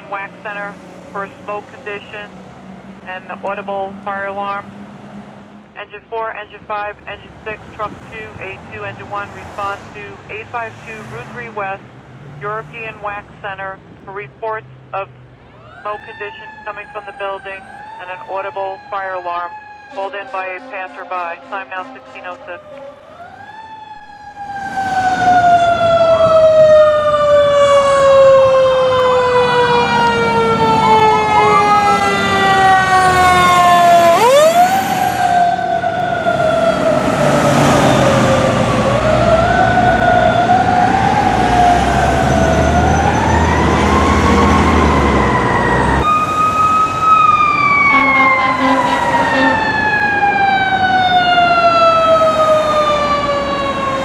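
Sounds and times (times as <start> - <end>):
fire truck siren wailing: 0.0 - 54.0
heavy truck engine rumbling: 0.0 - 54.0.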